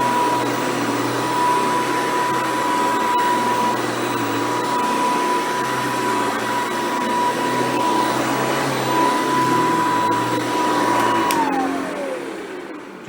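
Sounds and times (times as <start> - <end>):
upright vacuum cleaner running: 0.0 - 13.0.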